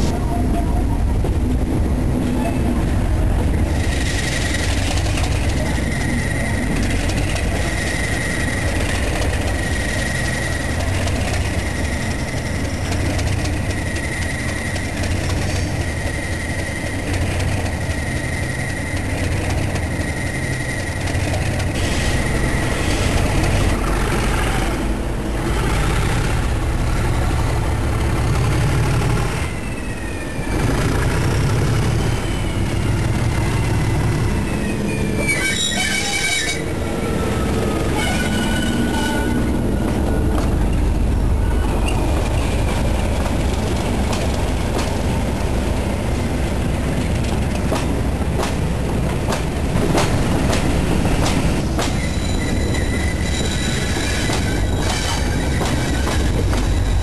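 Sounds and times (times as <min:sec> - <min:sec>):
diesel locomotive engines rumbling: 0:00.0 - 0:57.0.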